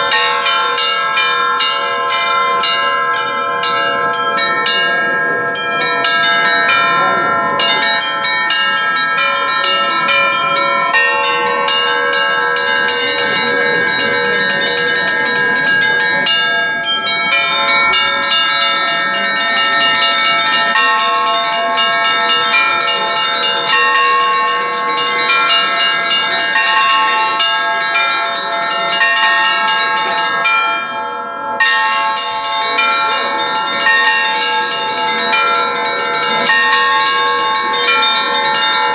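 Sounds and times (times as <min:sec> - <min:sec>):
bells chiming: 0:00.0 - 0:38.9.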